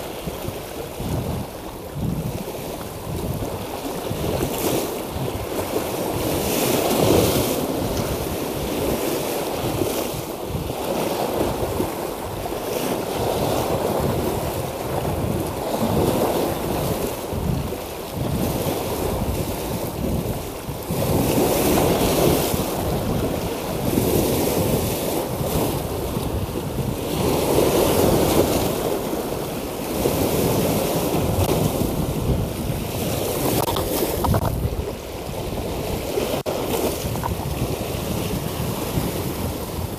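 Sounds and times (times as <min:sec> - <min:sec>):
waves washing against rocks: 0:00.0 - 0:39.9
wind buffeting microphone: 0:00.0 - 0:39.9.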